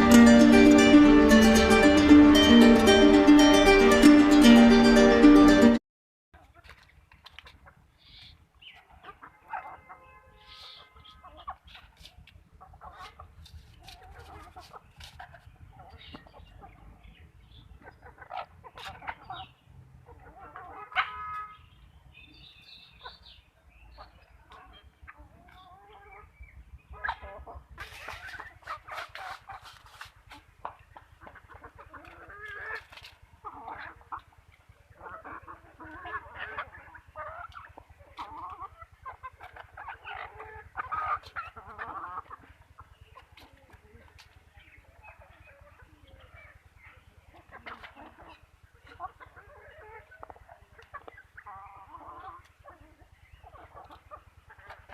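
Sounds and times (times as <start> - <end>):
chickens clucking: 6.4 - 54.9.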